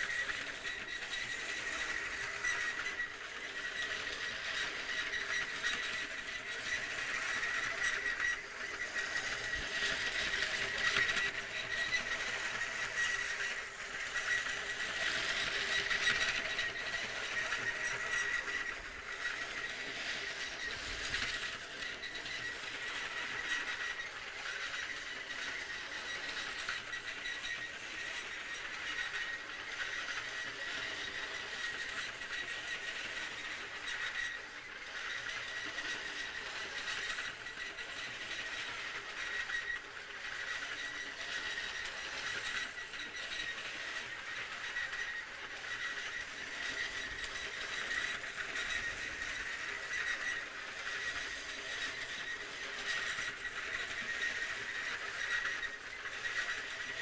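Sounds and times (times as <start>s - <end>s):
small electric motor whine: 0.0s - 57.0s
toy train wheels rattling on track: 0.0s - 57.0s.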